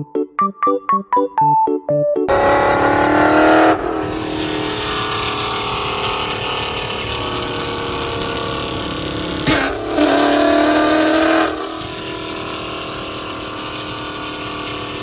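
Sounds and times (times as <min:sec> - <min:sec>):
car engine with whine: 0:02.3 - 0:15.0.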